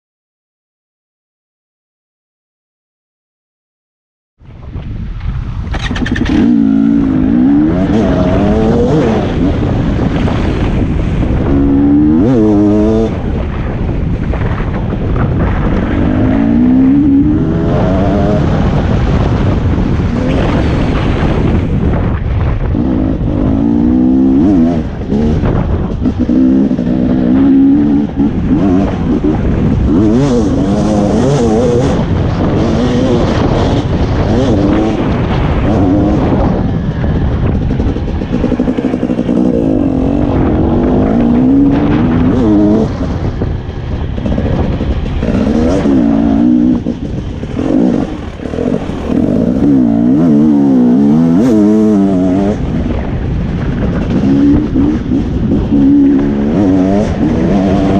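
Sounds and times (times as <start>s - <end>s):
wind buffeting microphone: 4.4s - 57.9s
dirt bike engine revving: 5.7s - 57.9s.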